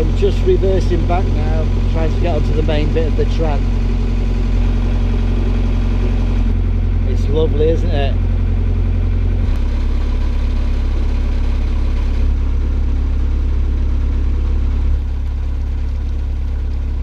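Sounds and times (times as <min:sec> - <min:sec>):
boat diesel engine running: 0:00.0 - 0:17.0.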